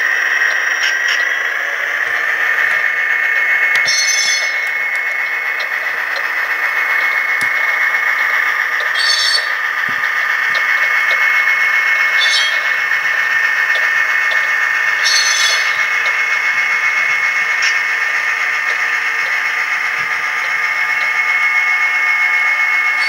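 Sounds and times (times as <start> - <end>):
flange squeals: 0.0 - 23.0
model train rolling wheel noise: 0.0 - 23.0.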